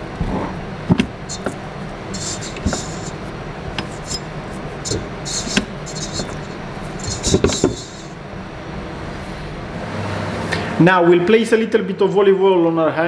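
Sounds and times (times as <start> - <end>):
low steady hum: 0.0 - 11.3.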